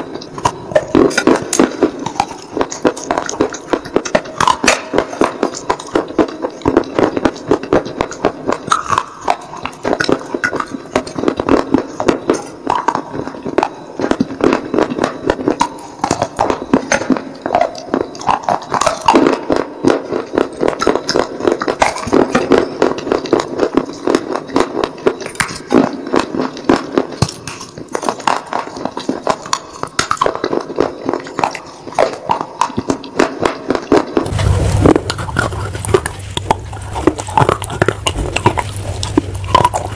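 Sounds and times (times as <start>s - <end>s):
crunching of clay being chewed: 0.0s - 39.9s.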